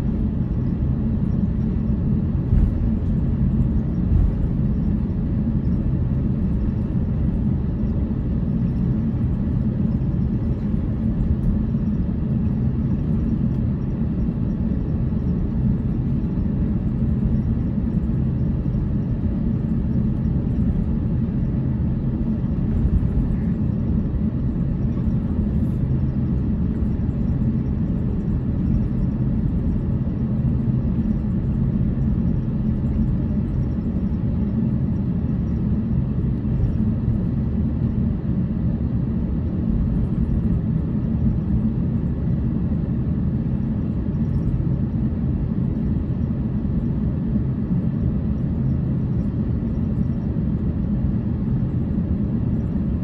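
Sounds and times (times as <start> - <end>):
aircraft cabin low rumble: 0.0 - 53.0.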